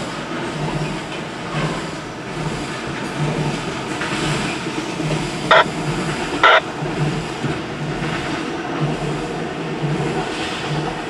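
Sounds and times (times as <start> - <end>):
train rumbling over a bridge: 0.2 - 11.0.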